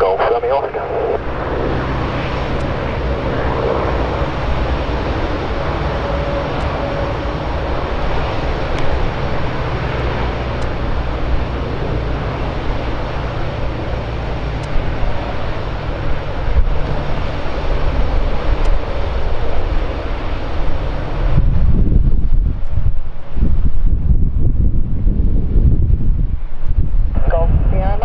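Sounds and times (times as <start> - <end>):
jet engines roaring: 0.0 - 28.0
wind buffeting microphone: 0.0 - 28.0.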